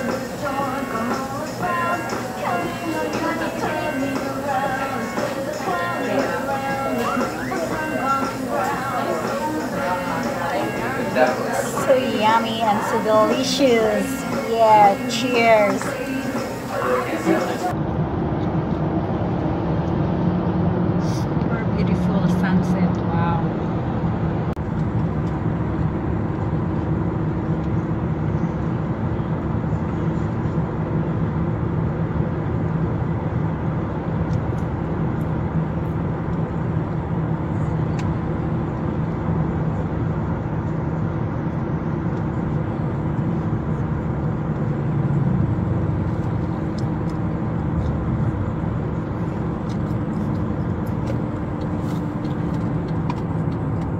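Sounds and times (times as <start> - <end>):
car engine hum: 0.0 - 53.9
road noise rush: 0.0 - 53.9.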